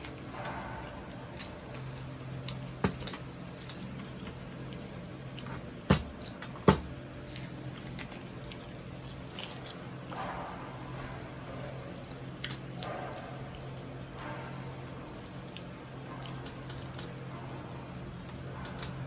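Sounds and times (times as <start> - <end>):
faint low hum: 0.0 - 19.0
person chewing crispy food: 1.1 - 19.0.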